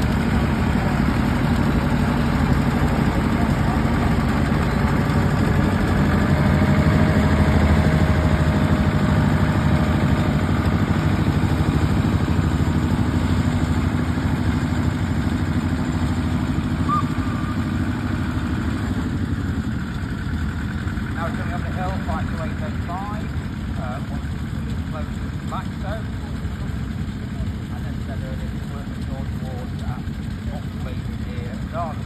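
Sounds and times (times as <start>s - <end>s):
locomotive engine passing: 0.0s - 32.0s.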